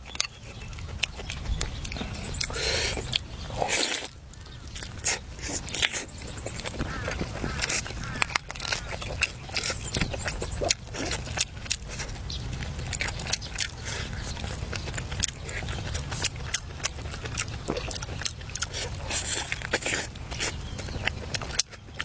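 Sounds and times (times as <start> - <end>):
low steady background noise: 0.0 - 22.0
person chewing crunchy food: 0.0 - 22.0.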